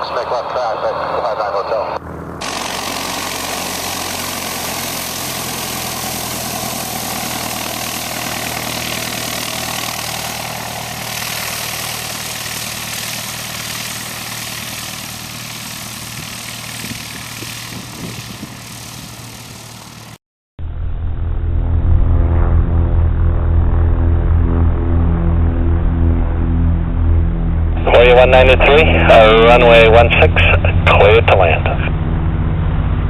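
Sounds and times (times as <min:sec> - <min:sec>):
propeller airplane engine: 0:00.0 - 0:33.0.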